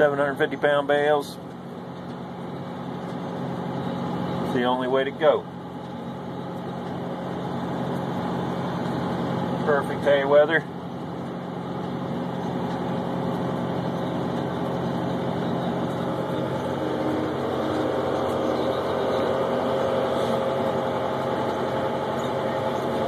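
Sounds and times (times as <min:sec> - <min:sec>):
tractor diesel engine drone: 0:00.0 - 0:23.0.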